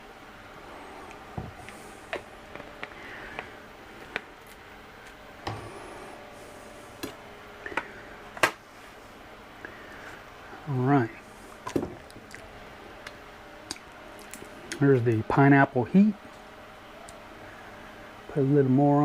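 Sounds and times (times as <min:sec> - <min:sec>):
steady faint hum: 0:00.0 - 0:19.0.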